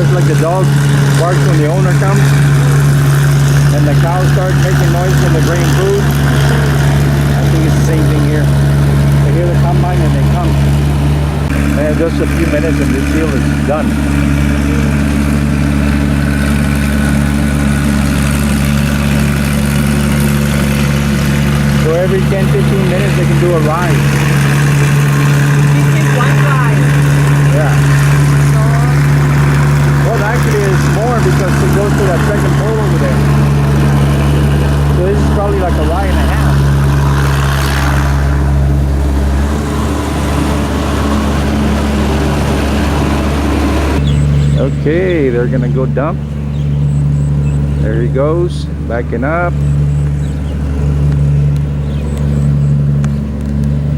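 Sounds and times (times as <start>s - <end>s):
combine harvester running: 0.0s - 53.9s.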